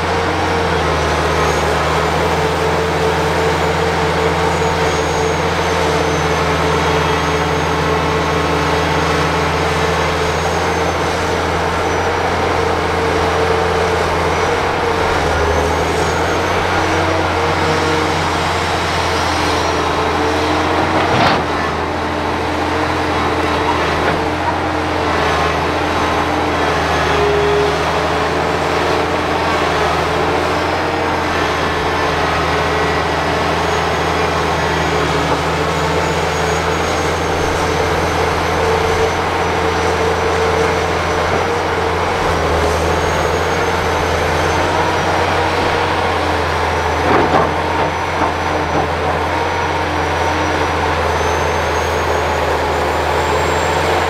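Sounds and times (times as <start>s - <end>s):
excavator diesel engine humming: 0.0s - 54.0s.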